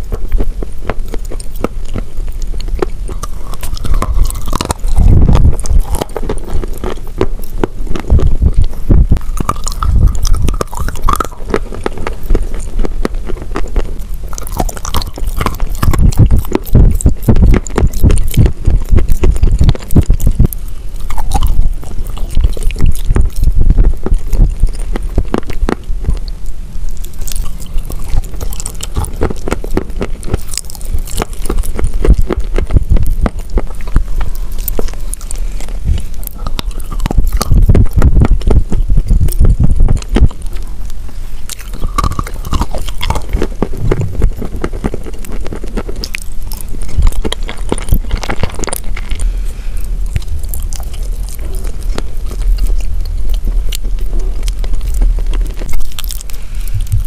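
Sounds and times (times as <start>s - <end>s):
chewing and crunching: 0.0s - 57.0s
wet mouth clicks and squelches: 0.0s - 57.0s.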